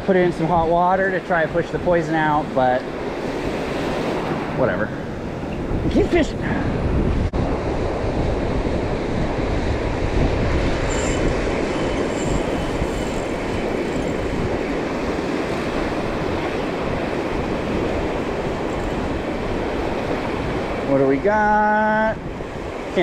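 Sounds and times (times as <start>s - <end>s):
ocean surf washing: 0.0s - 23.0s
wind buffeting microphone: 0.0s - 23.0s.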